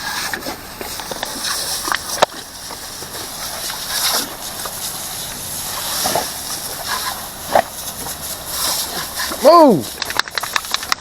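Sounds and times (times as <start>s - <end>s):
water splashing: 0.0s - 11.0s
water spraying from hose: 0.0s - 11.0s.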